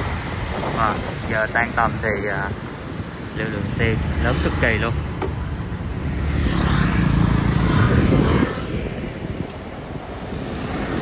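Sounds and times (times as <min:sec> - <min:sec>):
motor scooters passing: 0:00.0 - 0:11.0.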